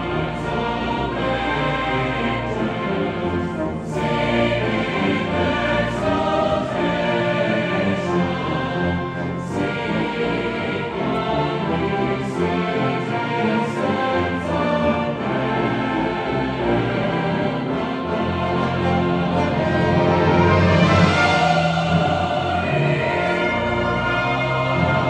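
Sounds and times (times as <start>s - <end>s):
brass band playing: 0.0s - 25.0s
mixed choir singing: 0.0s - 25.0s
timpani: 0.0s - 25.0s.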